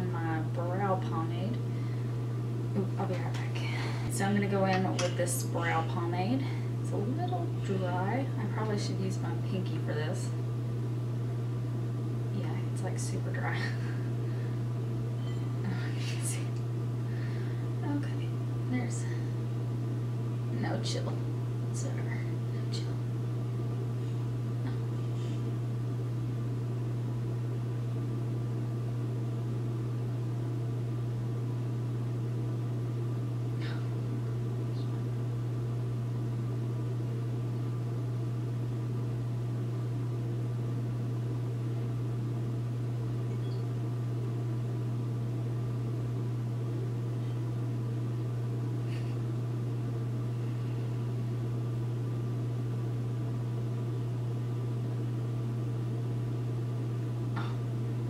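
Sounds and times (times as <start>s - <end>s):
low hum: 0.0s - 58.0s.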